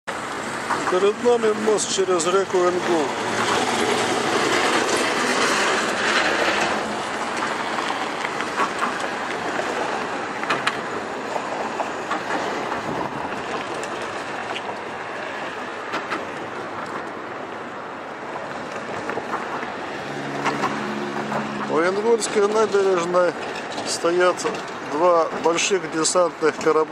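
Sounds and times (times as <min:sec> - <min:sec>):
heavy truck passing: 0:00.1 - 0:26.1
passing vehicles and tyre noise: 0:00.1 - 0:26.9.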